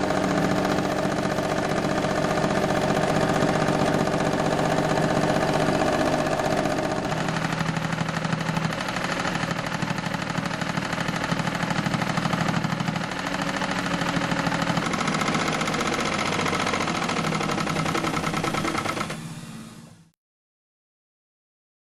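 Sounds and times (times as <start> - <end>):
sewing machine running fast: 0.0 - 20.1.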